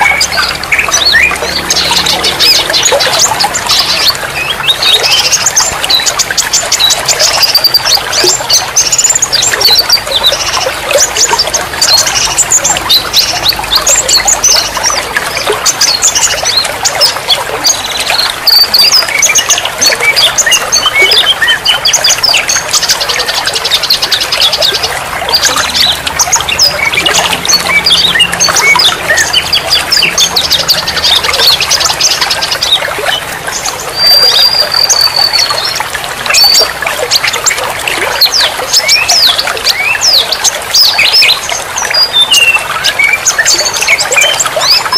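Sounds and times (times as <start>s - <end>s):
running water trickling: 0.0s - 44.9s
songbirds chirping and trilling: 0.0s - 44.9s.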